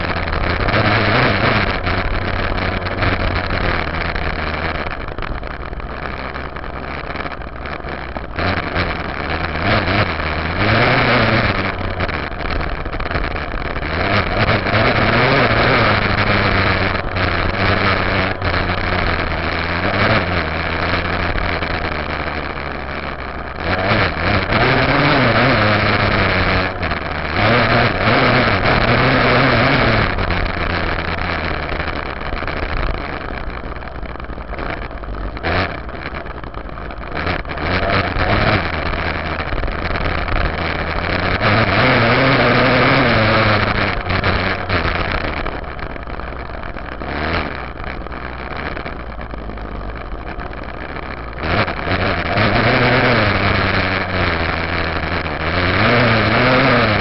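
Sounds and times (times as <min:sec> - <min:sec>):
dirt bike engine revving: 0:00.0 - 0:57.0
wind and road noise: 0:00.0 - 0:57.0.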